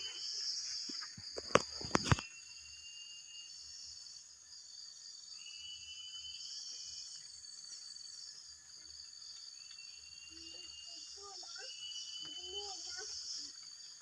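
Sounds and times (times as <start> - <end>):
insects buzzing: 0.0 - 14.0
low insect trill: 0.0 - 14.0.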